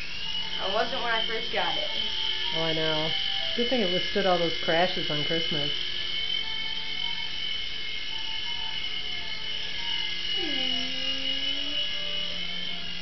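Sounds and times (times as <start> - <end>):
toy helicopter motor whine: 0.0 - 13.0.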